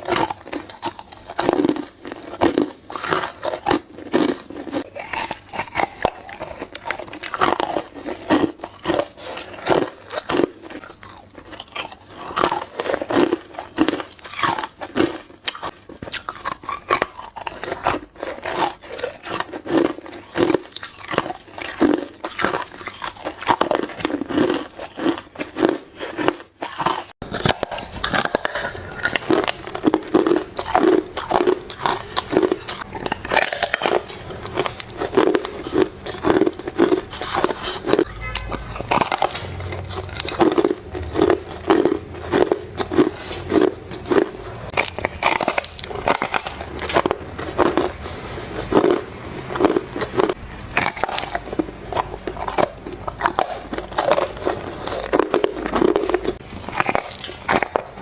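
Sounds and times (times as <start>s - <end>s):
ice cubes crunching: 0.0s - 58.0s.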